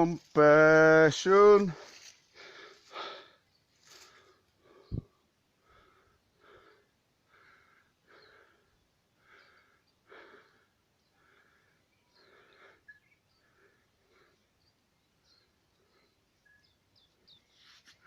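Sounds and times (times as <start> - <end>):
faint breathing: 1.7 - 16.4.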